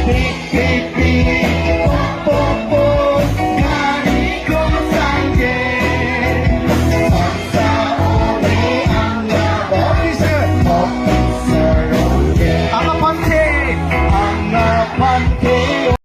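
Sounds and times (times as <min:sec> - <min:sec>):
band with steady beat: 0:00.0 - 0:16.0
bass: 0:00.0 - 0:16.0.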